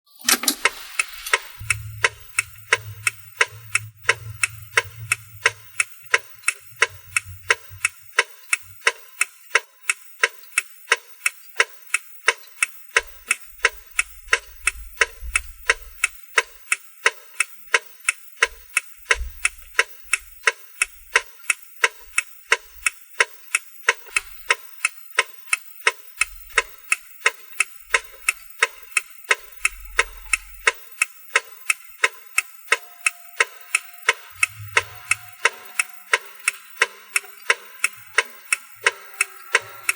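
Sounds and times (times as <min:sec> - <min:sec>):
turn signal indicator ticking: 0:01.3 - 0:39.9.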